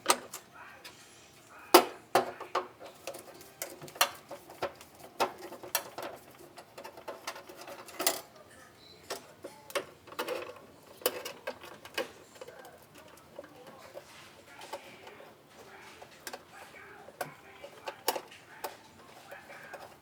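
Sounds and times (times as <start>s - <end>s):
hand tools clicking and tapping: 1.7s - 20.0s.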